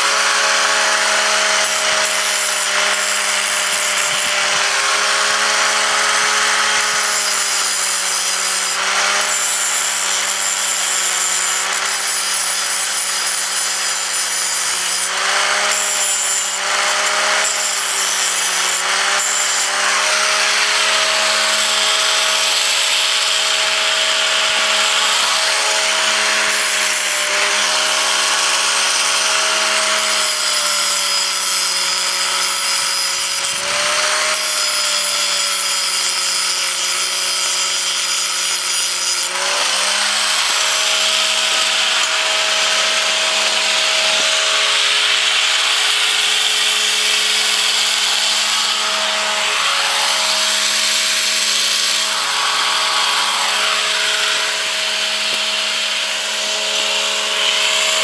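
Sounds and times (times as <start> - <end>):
angle grinder grinding metal: 0.0 - 58.0.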